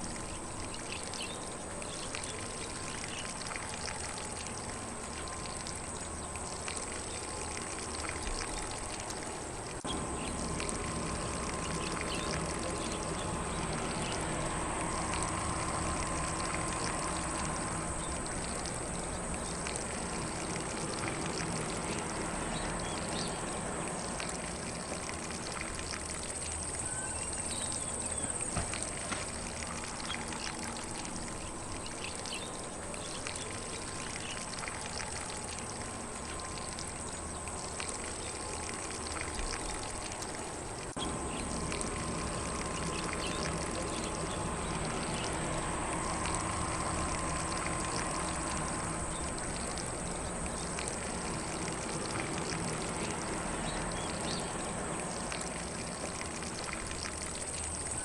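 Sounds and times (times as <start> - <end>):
lawn sprinkler spraying water: 0.0 - 58.0.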